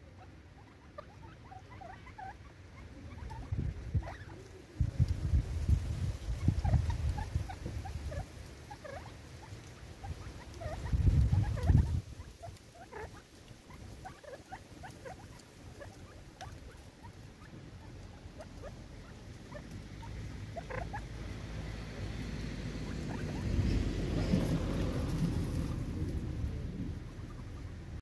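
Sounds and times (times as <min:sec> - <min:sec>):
birds pecking ticks: 0:00.0 - 0:28.0.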